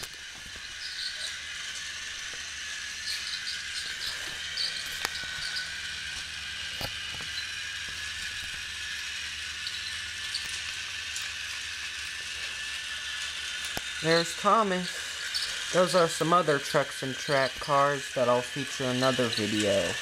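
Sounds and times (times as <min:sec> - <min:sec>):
toy train motor whirring: 0:00.0 - 0:20.0.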